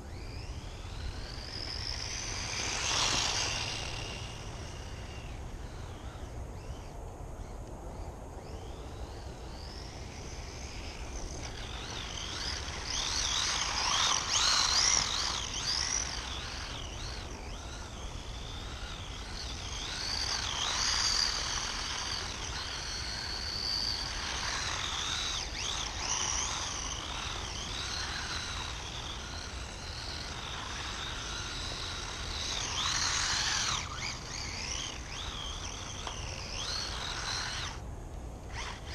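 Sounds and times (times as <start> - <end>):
toy car electric motor whining: 0.0 - 38.9.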